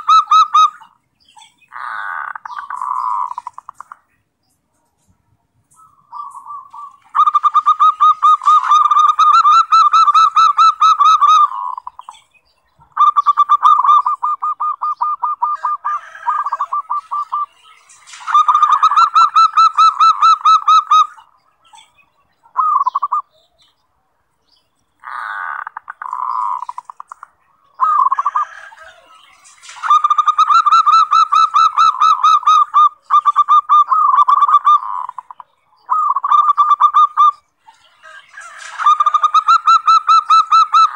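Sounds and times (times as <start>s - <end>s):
dove cooing trills: 0.0s - 4.1s, 5.7s - 23.7s, 25.0s - 40.9s.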